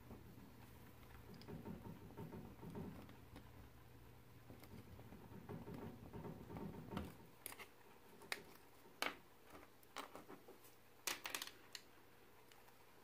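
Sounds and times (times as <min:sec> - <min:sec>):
faint room tone: 0:00.0 - 0:13.0.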